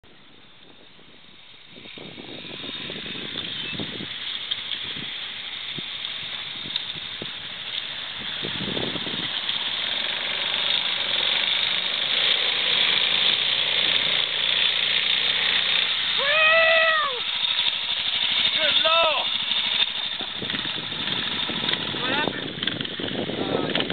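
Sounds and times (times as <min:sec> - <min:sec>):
motorcycle engine: 0:01.2 - 0:23.9
motorcycle engine revving: 0:01.6 - 0:23.9.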